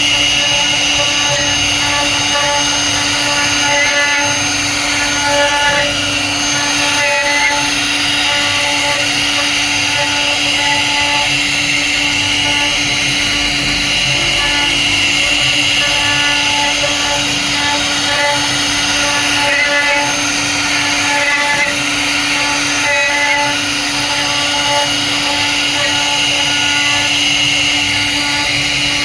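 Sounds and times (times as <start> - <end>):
cutter carving wood: 0.0 - 29.0
router spindle motor whine: 0.0 - 29.0.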